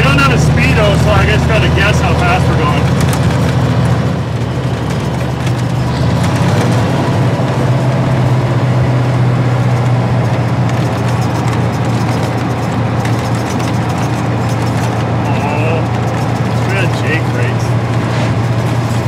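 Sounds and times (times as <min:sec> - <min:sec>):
diesel truck engine drone: 0:00.0 - 0:19.0
road and wind noise: 0:00.0 - 0:19.0.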